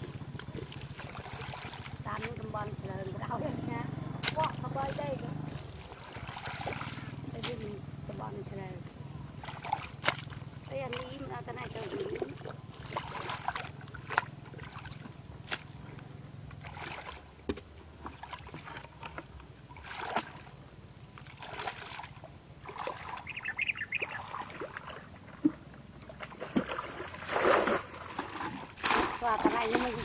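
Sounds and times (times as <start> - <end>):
muddy water splashing: 0.0 - 30.0.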